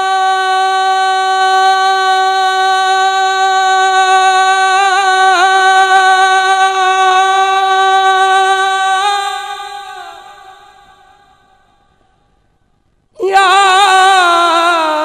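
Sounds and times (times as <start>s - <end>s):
man singing long note: 0.0s - 11.5s, 13.2s - 15.0s.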